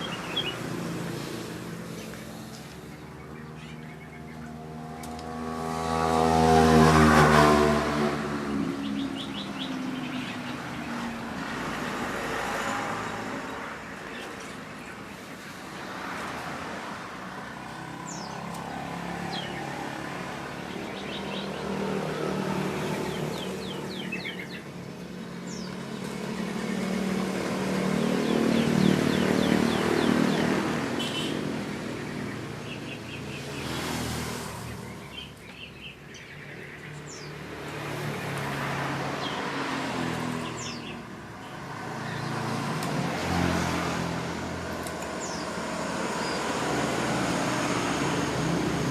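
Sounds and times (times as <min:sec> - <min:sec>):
small birds chirping: 0:00.0 - 0:06.9, 0:08.1 - 0:48.9
passing road traffic: 0:00.0 - 0:48.9.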